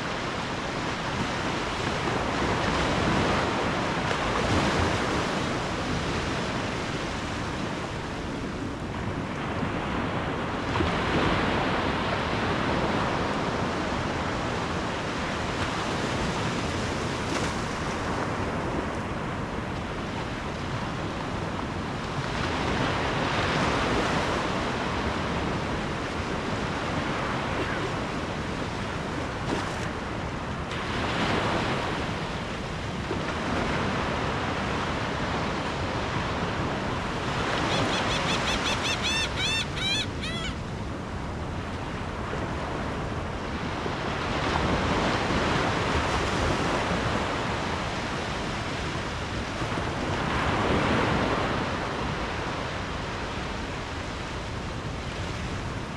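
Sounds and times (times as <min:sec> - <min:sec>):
ocean waves on shore: 0:00.0 - 0:55.9.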